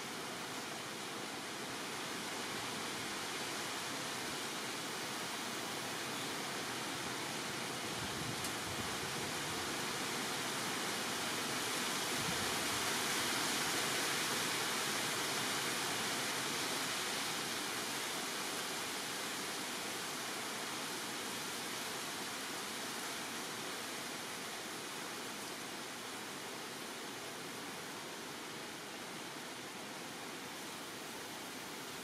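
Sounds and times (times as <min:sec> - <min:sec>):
steady rushing hiss: 0:00.0 - 0:32.0.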